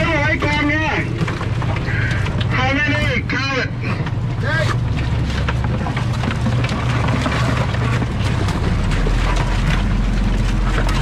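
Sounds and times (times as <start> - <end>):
clicks and clatter of crabs: 0.0 - 2.6, 3.8 - 11.0
boat engine running: 0.0 - 11.0.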